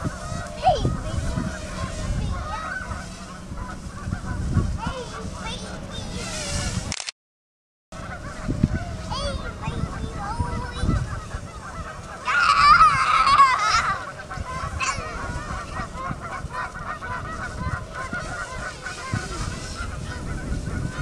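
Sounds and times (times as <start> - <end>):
geese honking: 0.0 - 6.9, 8.0 - 21.0.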